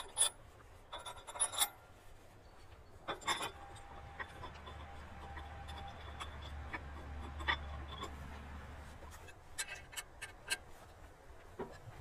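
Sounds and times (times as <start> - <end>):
small metal clicks and scrapes: 0.0 - 12.0.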